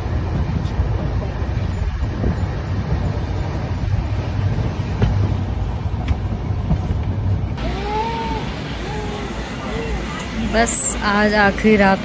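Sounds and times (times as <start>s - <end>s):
rushing air noise: 0.0s - 12.0s
train wheels rumbling on track: 0.0s - 12.0s.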